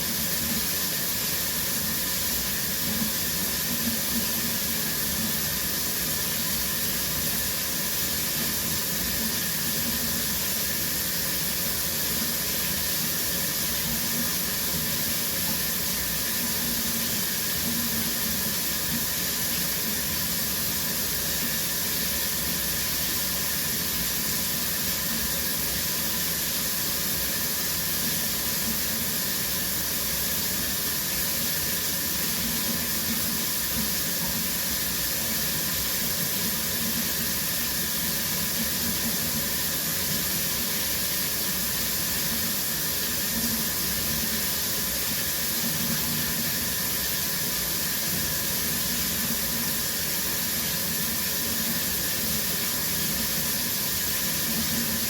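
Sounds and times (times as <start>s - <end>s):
shower water spraying: 0.0s - 55.0s.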